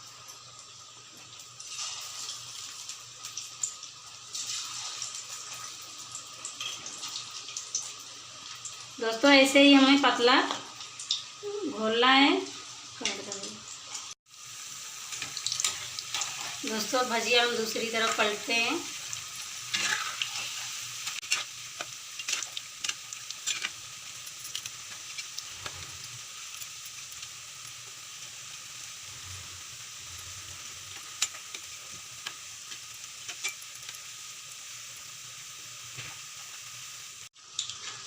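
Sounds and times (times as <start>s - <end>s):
fritters sizzling in hot oil: 0.0s - 38.0s.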